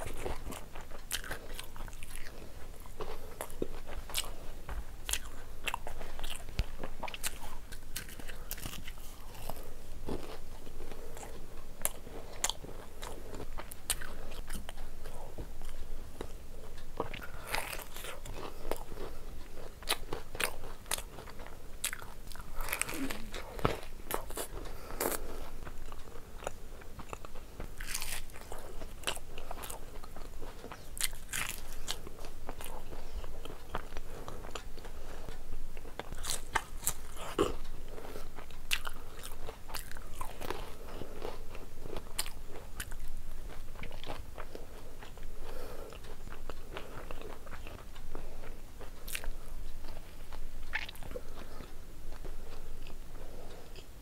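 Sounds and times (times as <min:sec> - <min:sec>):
person chewing crisp pastry: 0:00.0 - 0:54.0.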